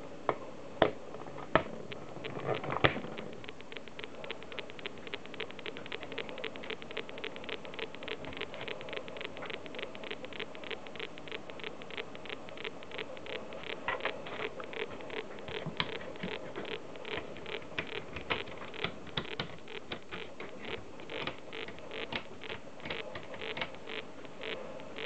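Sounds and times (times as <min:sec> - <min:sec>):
clock radio rapid clicks: 0:01.5 - 0:25.0.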